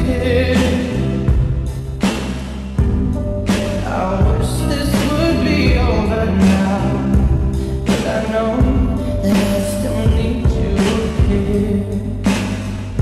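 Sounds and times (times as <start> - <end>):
pop song with sung vocal: 0.0 - 2.2, 3.0 - 13.0.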